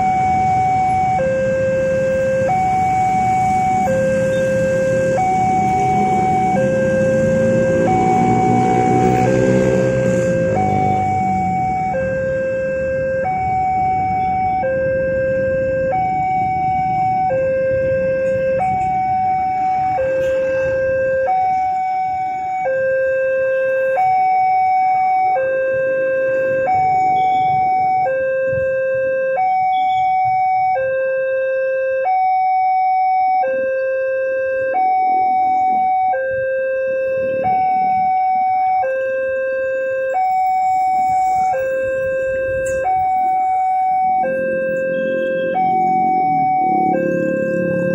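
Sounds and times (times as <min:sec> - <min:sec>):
two-tone electronic crossing alarm: 0:00.0 - 0:47.9.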